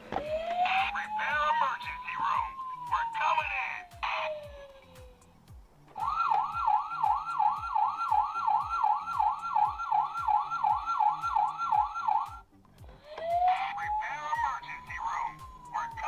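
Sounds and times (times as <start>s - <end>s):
toy electronic siren: 0.1s - 16.0s.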